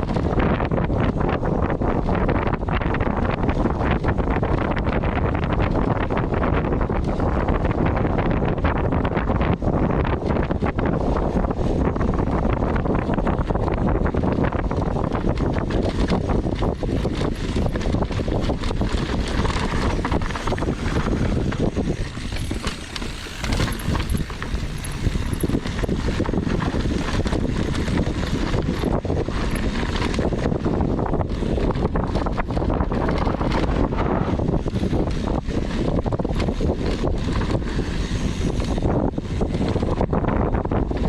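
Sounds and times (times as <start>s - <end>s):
bike rattling and knocking: 0.0s - 41.0s
wind buffeting microphone: 0.0s - 41.0s
steady rumble: 2.5s - 41.0s.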